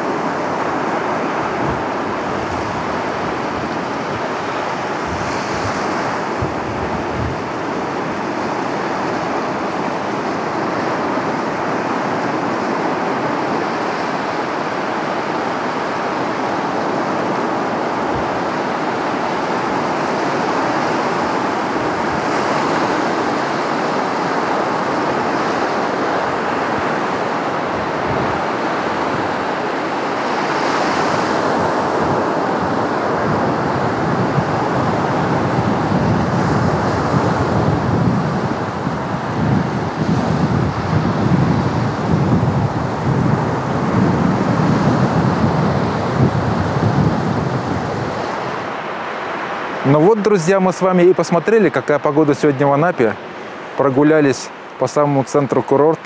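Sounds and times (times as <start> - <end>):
wind buffeting microphone: 0.0 - 50.4
surf waves breaking on beach: 0.0 - 56.0.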